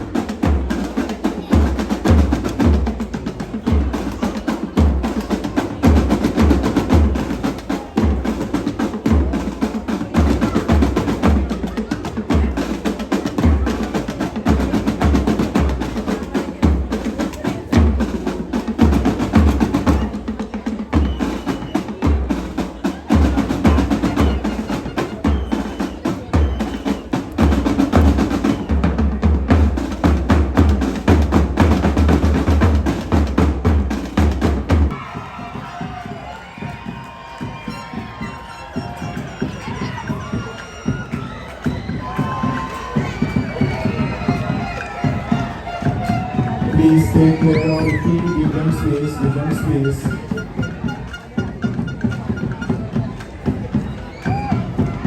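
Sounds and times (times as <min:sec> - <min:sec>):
snare drum strokes: 0:00.0 - 0:36.1, 0:36.7 - 0:55.0
bass drum beats: 0:00.0 - 0:55.0.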